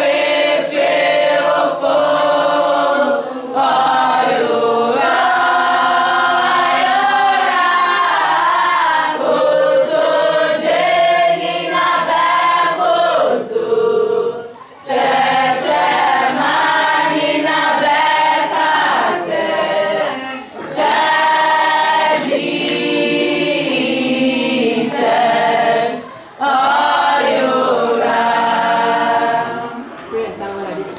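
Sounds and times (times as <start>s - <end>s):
group singing unaccompanied: 0.0s - 30.9s.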